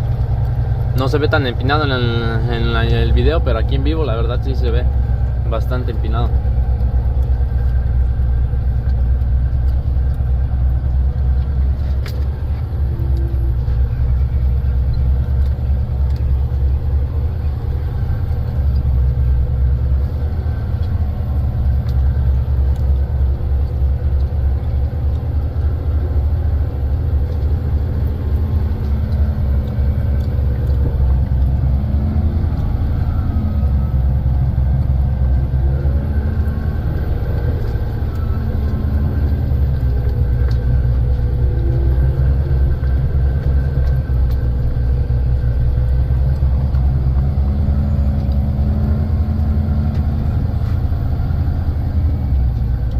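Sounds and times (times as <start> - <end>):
truck diesel engine rumbling: 0.0 - 52.9.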